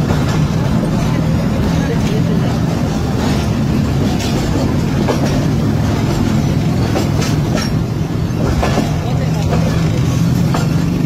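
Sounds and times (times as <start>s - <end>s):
train rumbling at speed: 0.0s - 11.0s
wheels clacking over rail joints: 0.0s - 11.0s.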